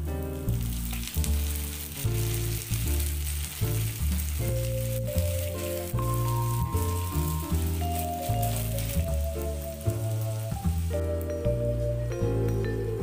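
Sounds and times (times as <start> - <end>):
background music with bass line: 0.0 - 13.0
oil sizzling in a pan: 0.0 - 13.0.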